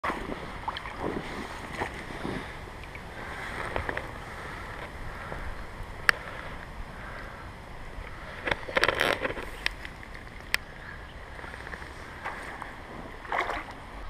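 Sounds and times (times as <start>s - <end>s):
small water splashes: 0.0s - 5.5s, 8.0s - 14.0s
stream water lapping and trickling: 0.0s - 14.0s.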